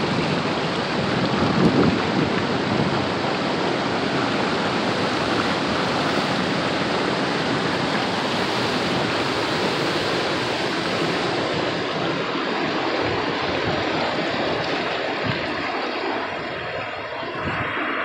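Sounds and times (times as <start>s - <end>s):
fast-flowing water rushing: 0.0s - 18.0s.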